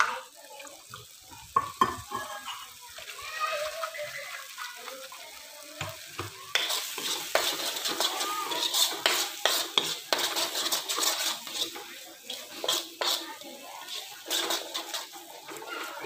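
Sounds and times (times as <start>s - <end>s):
paste sizzling: 0.0s - 16.0s
spatula scraping a pan: 1.8s - 5.2s, 5.9s - 16.0s.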